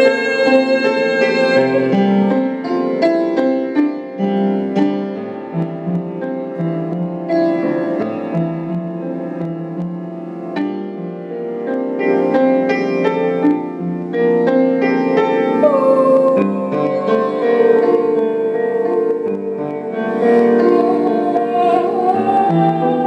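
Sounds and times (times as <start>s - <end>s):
slow piano melody: 0.0s - 23.0s.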